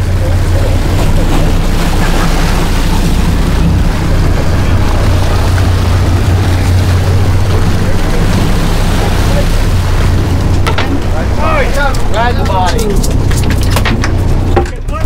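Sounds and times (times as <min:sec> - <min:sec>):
boat engines idling: 0:00.0 - 0:15.0.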